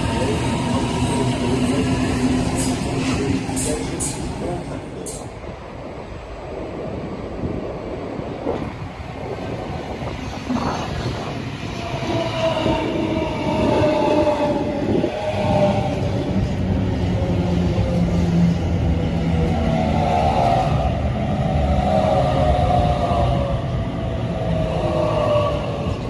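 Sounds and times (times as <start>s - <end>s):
electric train rumble: 0.0s - 26.0s
train whine: 0.0s - 26.0s.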